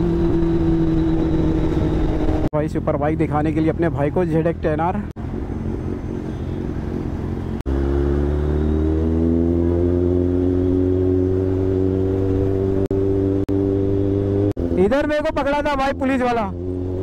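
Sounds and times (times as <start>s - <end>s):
motorcycle engine revving: 0.0s - 2.5s, 5.8s - 17.0s.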